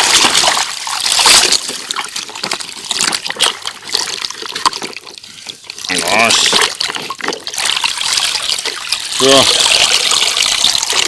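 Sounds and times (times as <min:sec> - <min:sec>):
water dripping: 0:00.0 - 0:11.0
water splashing and trickling: 0:00.0 - 0:11.0.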